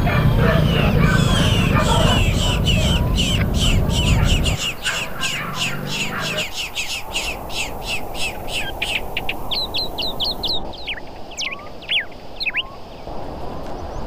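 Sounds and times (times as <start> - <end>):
high bird chirps: 0.0 - 12.8
steady background hiss: 0.0 - 14.0
sweeping whistled bird notes: 0.4 - 13.1.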